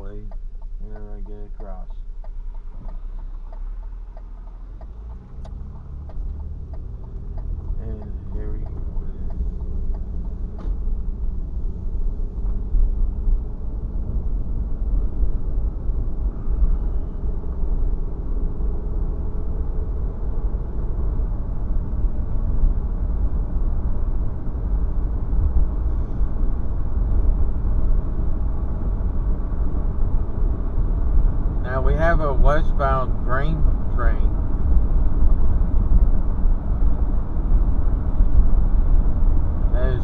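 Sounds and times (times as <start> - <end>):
car engine from inside cabin: 0.0 - 40.0.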